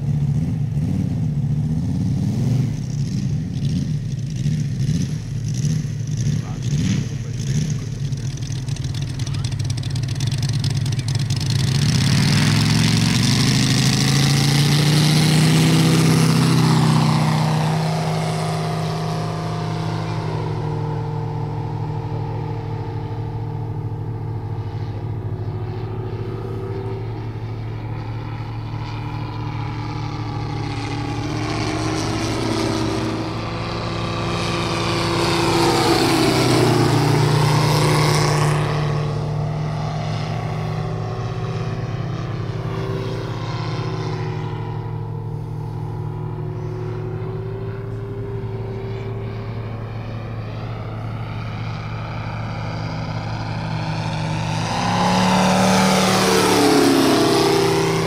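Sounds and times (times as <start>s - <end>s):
model plane radial engine: 0.0s - 58.0s.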